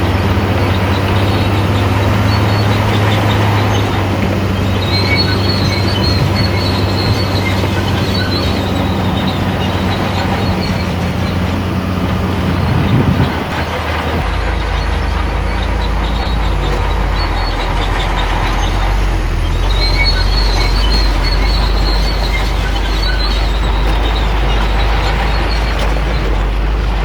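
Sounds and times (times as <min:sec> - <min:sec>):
bulldozer diesel engine under load: 0:00.0 - 0:27.0
steel tracks clanking and squealing: 0:00.0 - 0:27.0.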